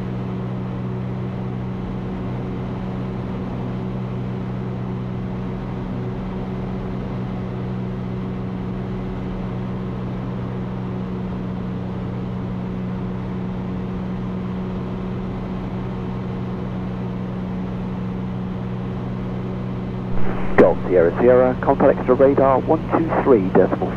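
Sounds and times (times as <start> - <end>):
light aircraft engine droning: 0.0 - 23.9.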